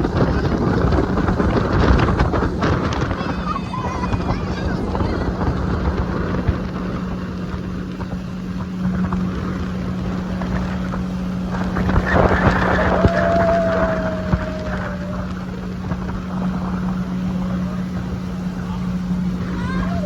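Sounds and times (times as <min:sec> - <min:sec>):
motorboat engine humming: 0:00.0 - 0:20.0
rush of noise: 0:00.0 - 0:20.0
wind buffeting microphone: 0:00.0 - 0:20.0.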